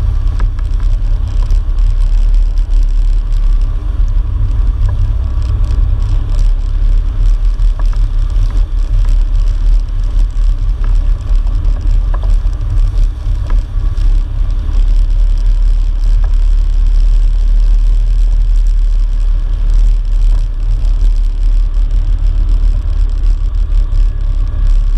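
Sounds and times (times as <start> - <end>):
off-road vehicle engine rumbling: 0.0 - 24.9.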